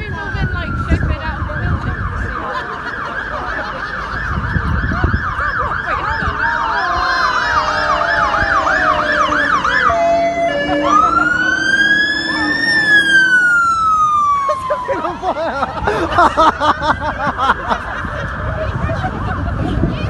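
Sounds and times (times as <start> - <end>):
emergency vehicle siren: 0.0 - 20.0.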